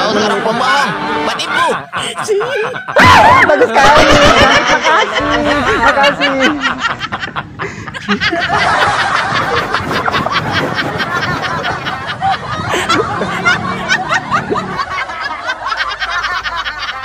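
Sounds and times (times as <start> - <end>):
young women laughing: 0.0 - 17.0.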